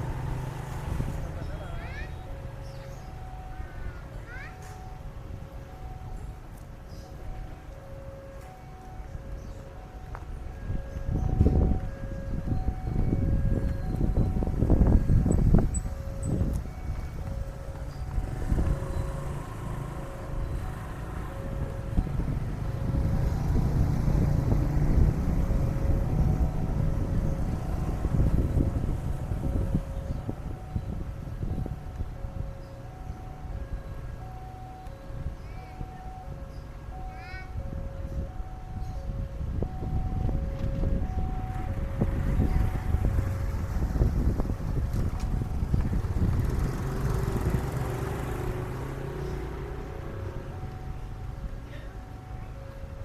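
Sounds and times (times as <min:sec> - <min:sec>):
two-tone crossing alarm: 0:00.0 - 0:45.9, 0:47.0 - 0:53.0
train passing with rumble: 0:04.9 - 0:34.5, 0:39.1 - 0:53.0.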